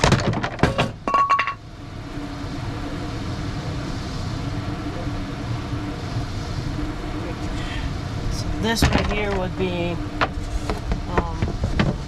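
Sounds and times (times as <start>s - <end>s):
faint hum: 0.0s - 12.0s
low mechanical rumble: 0.0s - 12.0s.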